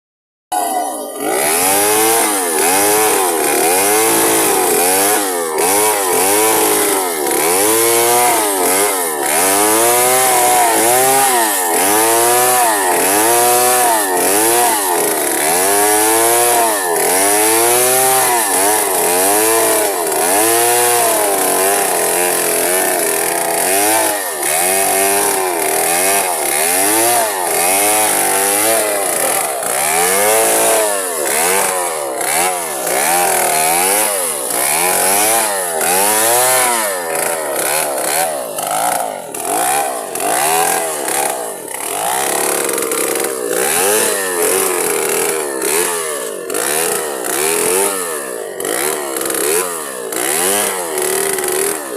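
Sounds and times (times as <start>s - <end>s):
chainsaw engine revving: 0.5s - 51.9s.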